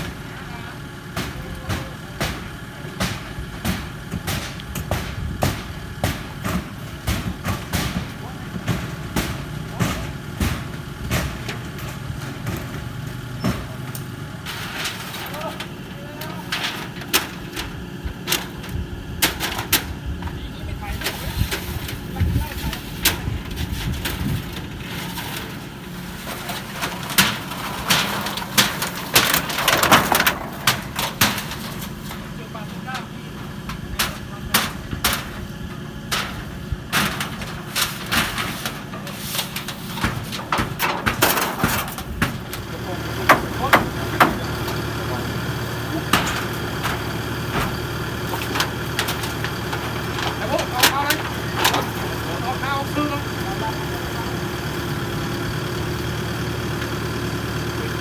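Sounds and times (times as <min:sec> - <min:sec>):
steady engine hum: 0:00.0 - 0:58.0
debris knocking and clattering: 0:01.2 - 0:58.0.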